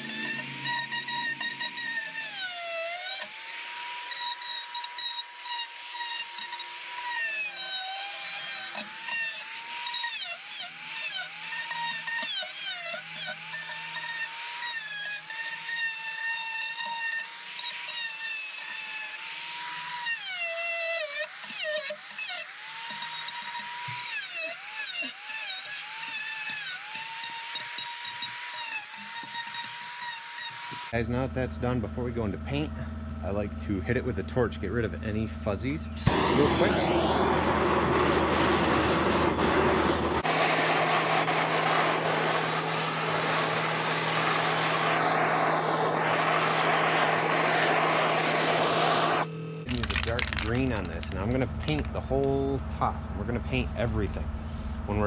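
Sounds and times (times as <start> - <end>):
rotary carving tool whining: 0.0 - 31.0, 35.9 - 51.9
wood being ground away: 0.0 - 31.0, 36.0 - 52.4.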